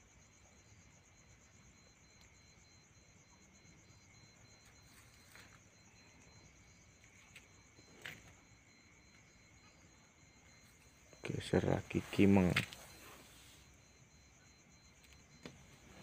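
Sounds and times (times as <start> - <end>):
night insects trilling: 0.0 - 16.0
background hiss: 0.1 - 16.0.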